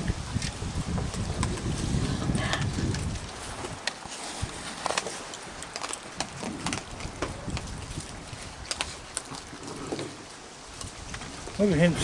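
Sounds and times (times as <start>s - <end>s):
raccoons feeding clicks and taps: 0.3s - 12.0s.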